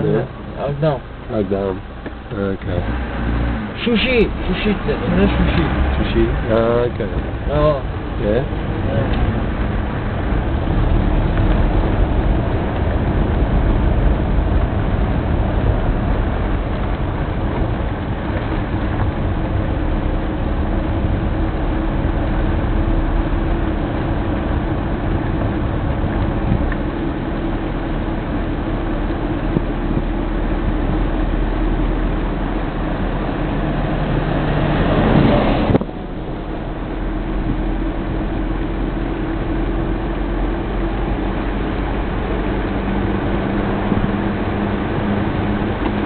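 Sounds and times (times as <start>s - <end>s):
car engine and road noise: 0.0s - 46.0s
low hum: 0.0s - 46.0s.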